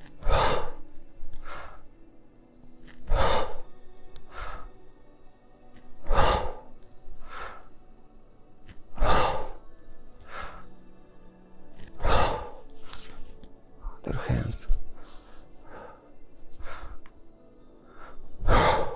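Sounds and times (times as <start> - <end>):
man breathing hard: 0.0 - 2.0, 2.8 - 5.1, 5.7 - 7.9, 8.6 - 11.0, 11.8 - 18.9
faint background music: 0.0 - 18.9.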